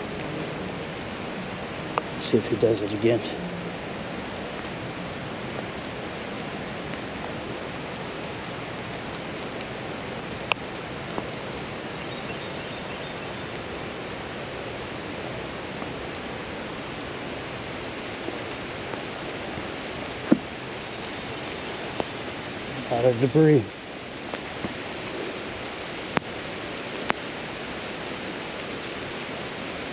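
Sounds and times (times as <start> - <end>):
rushing water: 0.0 - 29.9.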